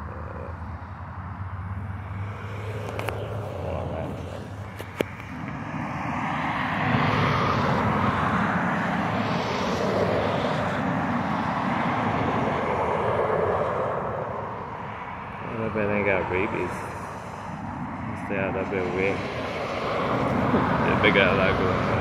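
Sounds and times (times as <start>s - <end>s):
vehicle engine roar: 0.0s - 22.0s.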